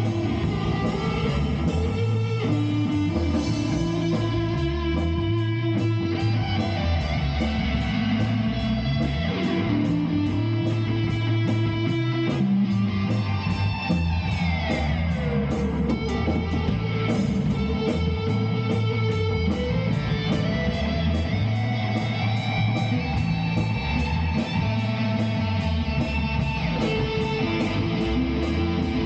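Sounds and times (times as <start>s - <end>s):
instrumental band jam: 0.0s - 29.0s.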